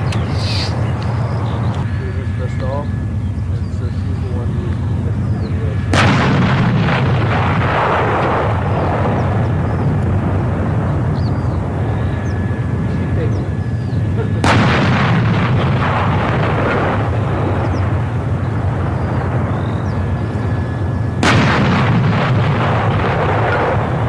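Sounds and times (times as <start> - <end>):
howitzer firing with rolling echo: 0.8 - 24.0.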